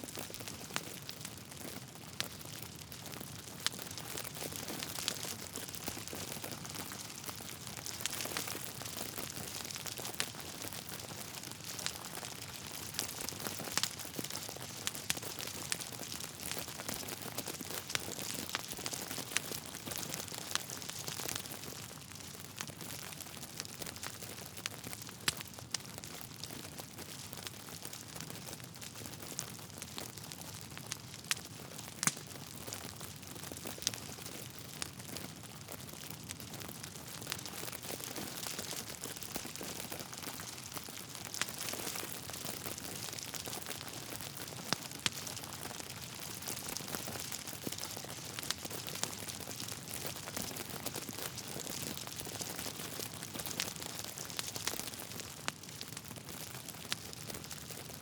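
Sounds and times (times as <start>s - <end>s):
logs crackling in fireplace: 0.1s - 58.0s.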